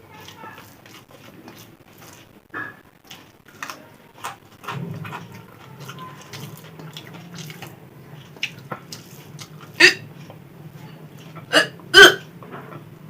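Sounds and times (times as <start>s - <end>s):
chewing with mouth clicks: 0.0s - 12.9s.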